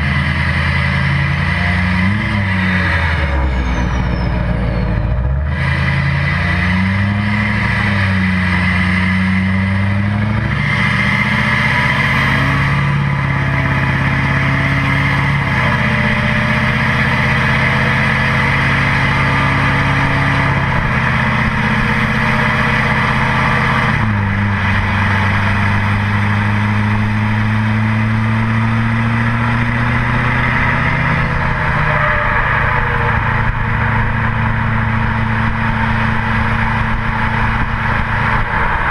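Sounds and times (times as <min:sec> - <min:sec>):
diesel truck engine driving: 0:00.0 - 0:38.9.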